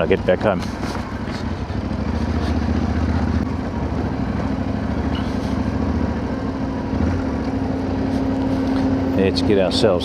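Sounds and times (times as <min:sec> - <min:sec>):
generator engine humming: 0:00.0 - 0:10.0.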